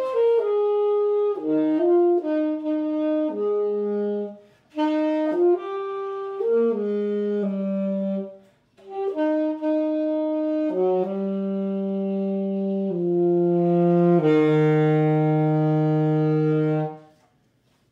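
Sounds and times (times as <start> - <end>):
solo wind instrument tune: 0.0 - 17.3.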